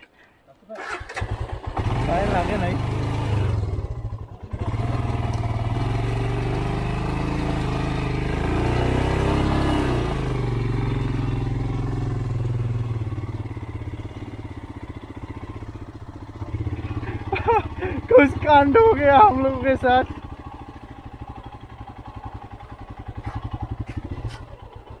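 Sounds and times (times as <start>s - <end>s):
motorcycle engine climbing: 0.0s - 25.0s.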